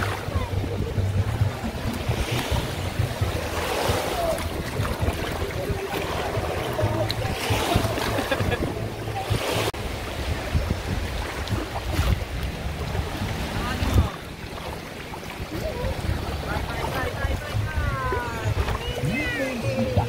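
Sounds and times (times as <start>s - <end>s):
small waves washing over sand: 0.0s - 20.0s
wind buffeting microphone: 0.0s - 20.0s.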